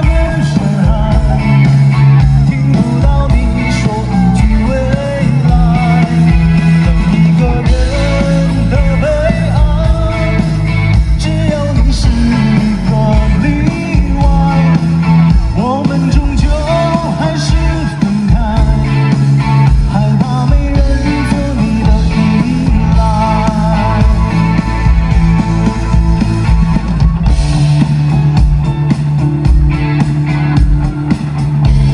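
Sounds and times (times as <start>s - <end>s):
man singing pop ballad live: 0.0s - 27.3s
band playing through sound system: 0.0s - 31.9s.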